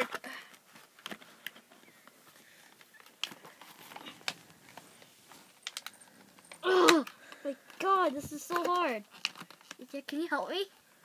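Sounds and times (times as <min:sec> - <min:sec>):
plastic packaging clicks and rustles: 0:00.0 - 0:10.9.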